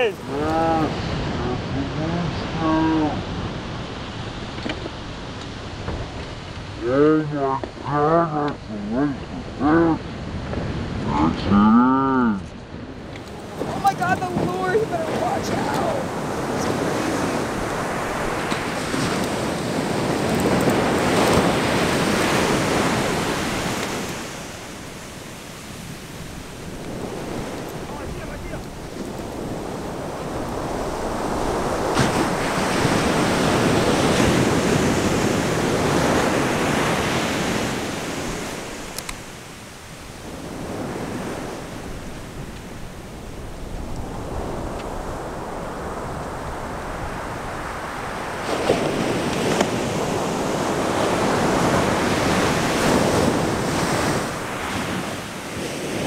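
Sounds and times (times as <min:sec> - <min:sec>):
ocean surf breaking: 0:00.0 - 0:56.0
wind buffeting microphone: 0:08.6 - 0:11.6, 0:12.5 - 0:56.0.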